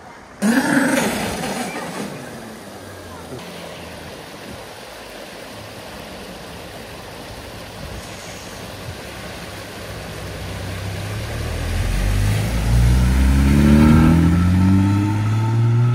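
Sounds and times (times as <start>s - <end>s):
rushing water: 0.0s - 15.9s
car engine accelerating: 0.4s - 15.9s.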